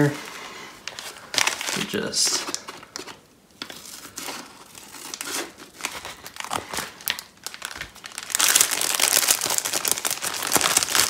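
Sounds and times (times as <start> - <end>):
padded mailer crinkling: 0.8 - 11.0
plastic bag crinkling: 0.8 - 11.0.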